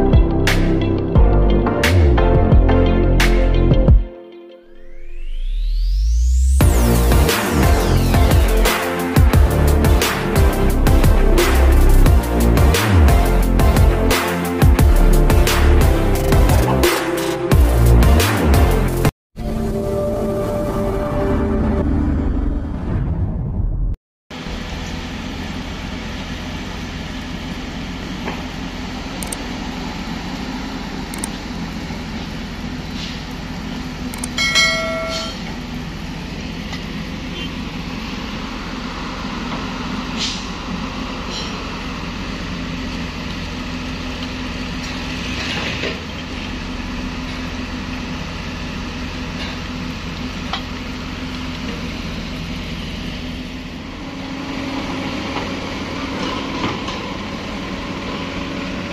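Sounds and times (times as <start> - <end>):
heavy diesel machinery droning: 4.8 - 23.5, 24.3 - 58.9.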